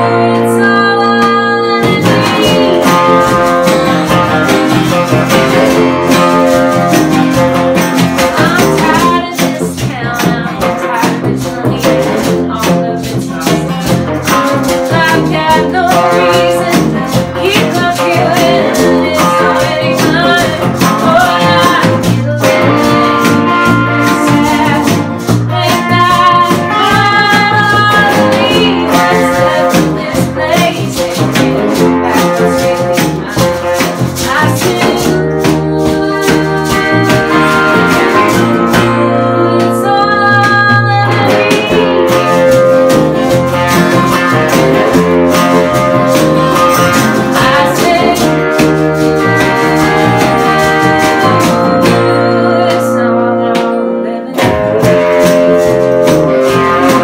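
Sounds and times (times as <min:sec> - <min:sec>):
bass guitar: 0:00.0 - 0:57.0
electric guitars: 0:00.0 - 0:57.0
strummed acoustic guitar: 0:00.0 - 0:57.0
woman singing lead: 0:00.0 - 0:57.0.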